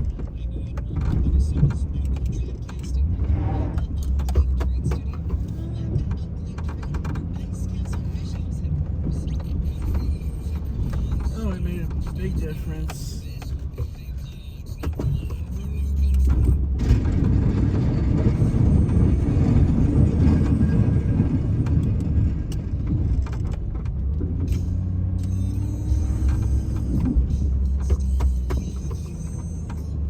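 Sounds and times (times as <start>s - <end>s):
snow-clearing vehicle engine: 0.0s - 13.4s, 15.6s - 30.0s.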